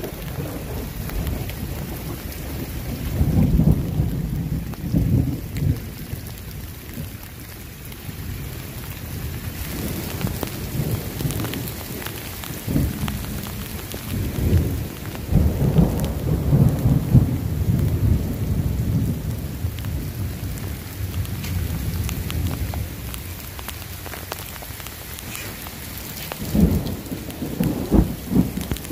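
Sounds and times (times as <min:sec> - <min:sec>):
heavy rain: 0:00.0 - 0:28.9
thunder rumbling: 0:00.0 - 0:28.9.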